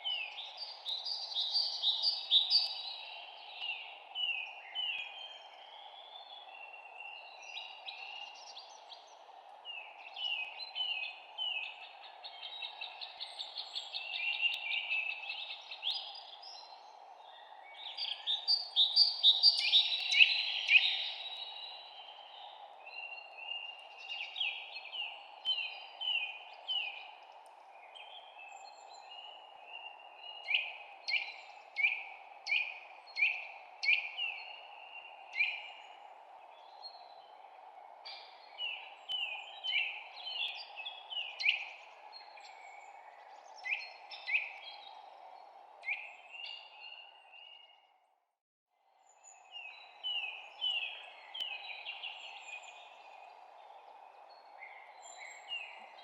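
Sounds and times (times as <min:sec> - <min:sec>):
songbirds chirping: 0:00.0 - 0:48.1, 0:48.9 - 0:56.0.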